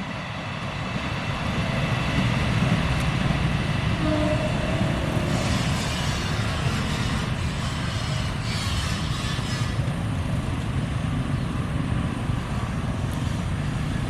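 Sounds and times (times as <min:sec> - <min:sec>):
passenger train passing: 0:00.0 - 0:14.0.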